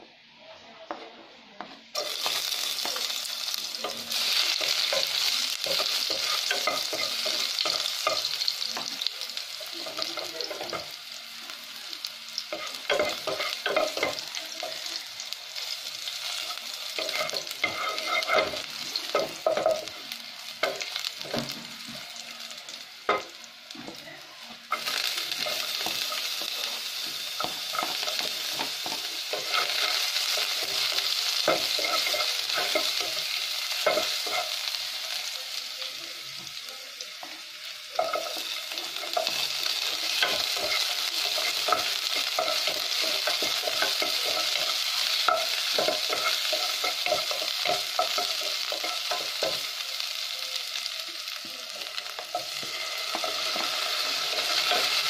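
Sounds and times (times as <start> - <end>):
garlic sizzling in hot oil: 1.9 - 55.0.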